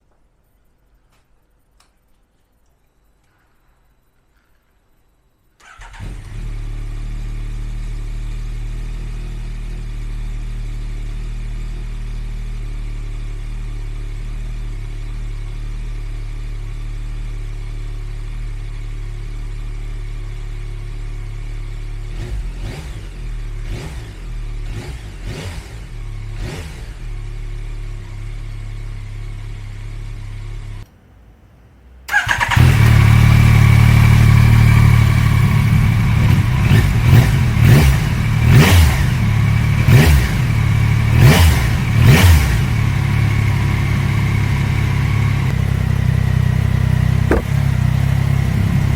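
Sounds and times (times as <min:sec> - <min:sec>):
motorcycle engine idling and revving: 0:05.6 - 0:30.9, 0:31.9 - 0:48.9.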